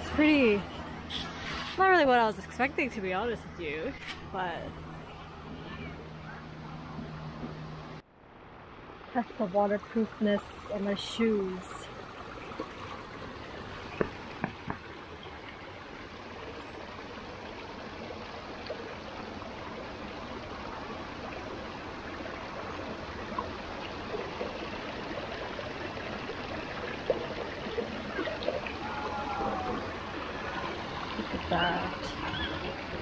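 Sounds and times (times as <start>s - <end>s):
creek trickling over rocks: 0.0s - 8.0s, 8.9s - 33.0s.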